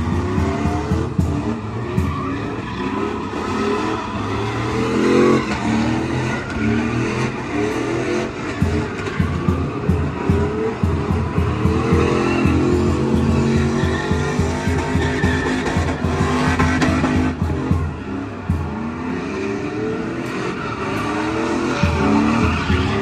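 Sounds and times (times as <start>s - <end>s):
truck engine revving: 0.0s - 23.0s
tyres squealing: 0.3s - 10.2s, 11.2s - 17.4s, 20.2s - 23.0s.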